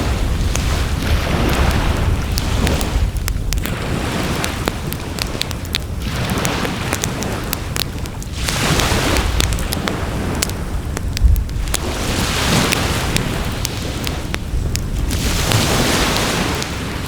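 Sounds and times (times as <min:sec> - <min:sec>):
sea waves washing onto shore: 0:00.0 - 0:17.0
steady low rumble: 0:00.0 - 0:17.0
wood fire crackling and popping: 0:00.0 - 0:17.0.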